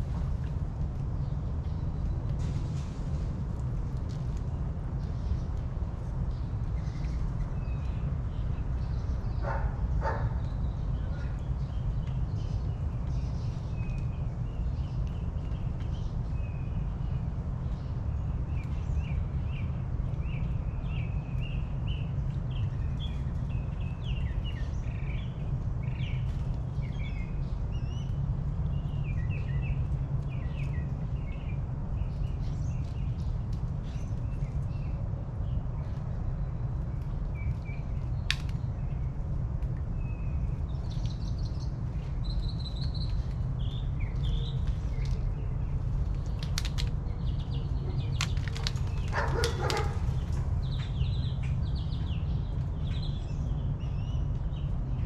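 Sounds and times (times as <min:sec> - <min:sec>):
small birds chirping: 0:00.0 - 0:55.0
steady low rumble: 0:00.0 - 0:55.0.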